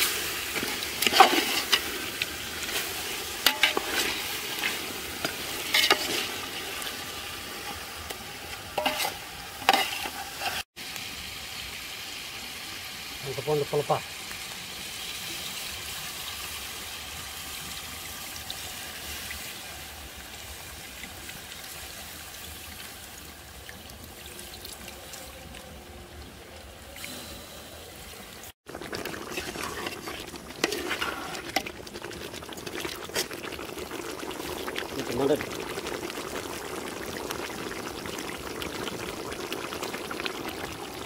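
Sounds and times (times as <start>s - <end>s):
water trickling into a pot: 0.0s - 41.0s.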